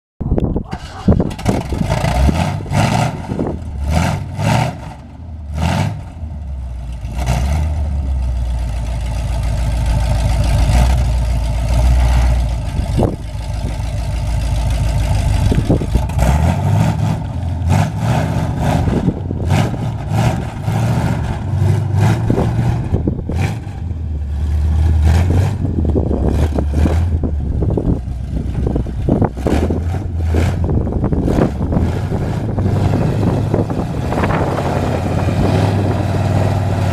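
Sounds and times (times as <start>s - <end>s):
truck driving off: 0.6s - 36.9s
truck engine revving: 0.7s - 36.9s.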